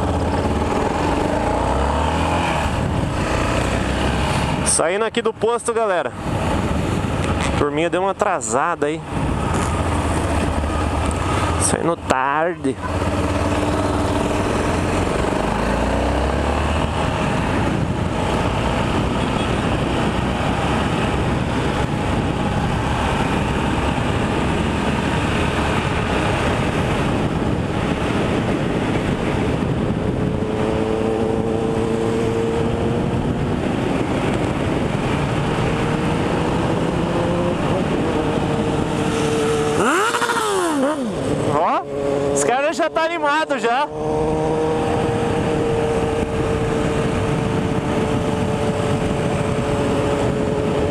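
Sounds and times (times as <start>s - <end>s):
motorcycle engine running: 0.0s - 4.6s, 9.0s - 50.9s
wind noise: 0.0s - 50.9s.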